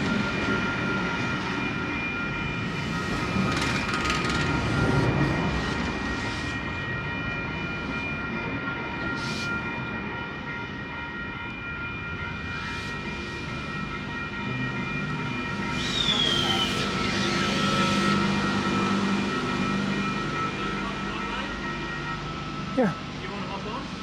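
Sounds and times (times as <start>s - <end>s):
electric train rumble: 0.0s - 24.0s
train equipment whine: 0.0s - 24.0s.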